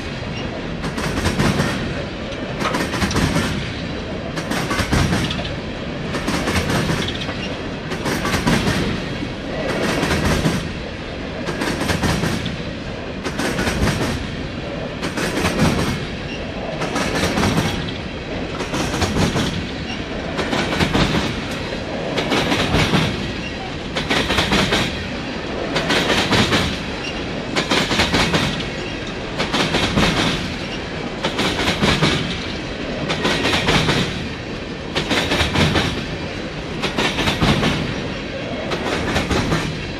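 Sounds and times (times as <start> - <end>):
train wheels clacking over track: 0.0 - 39.9.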